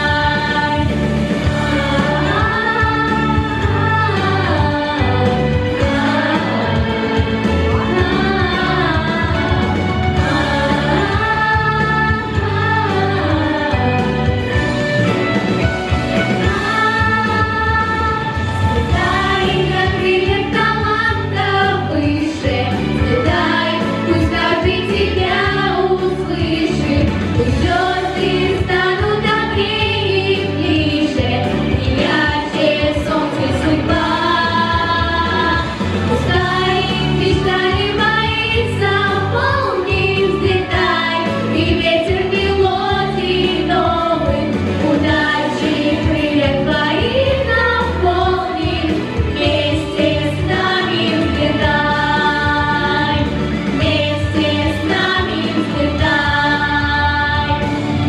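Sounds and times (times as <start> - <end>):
girls singing into microphones: 0.0 - 14.7, 16.4 - 58.0
musical accompaniment: 0.0 - 58.0.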